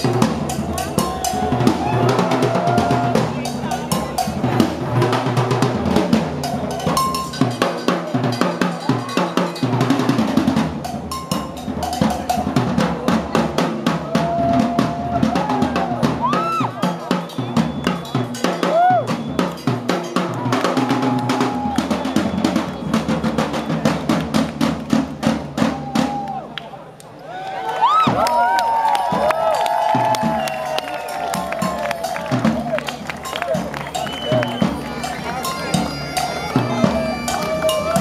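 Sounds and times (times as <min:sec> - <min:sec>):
drums beating a fast rhythm: 0:00.0 - 0:26.5, 0:27.8 - 0:38.0.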